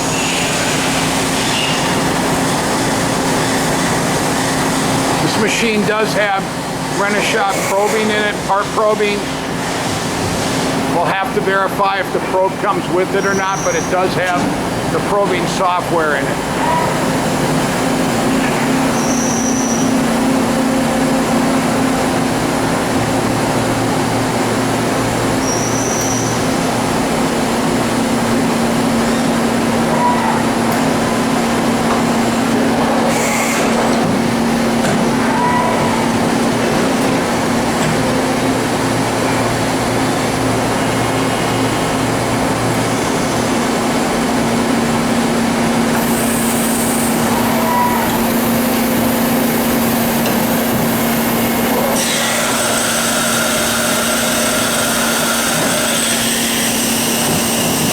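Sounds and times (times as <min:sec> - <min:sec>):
machine mechanical hum: 0:00.0 - 0:57.9.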